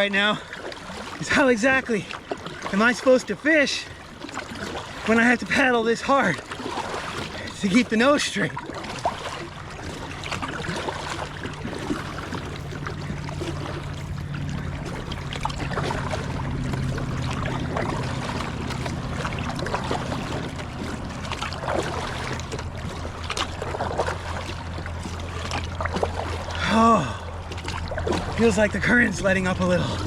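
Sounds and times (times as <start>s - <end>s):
paddle strokes splashing: 0.0s - 30.0s
water rushing along hull: 0.0s - 30.0s
steady low hum: 0.2s - 30.0s.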